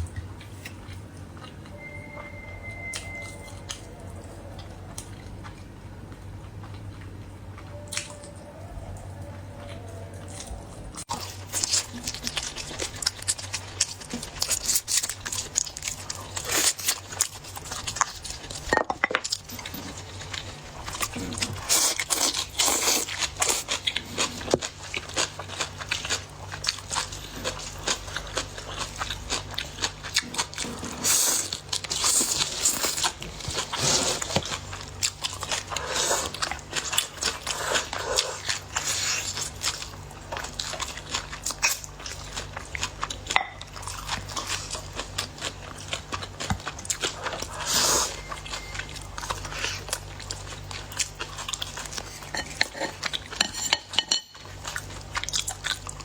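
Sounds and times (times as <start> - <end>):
wet chewing and crunching: 0.0 - 56.0.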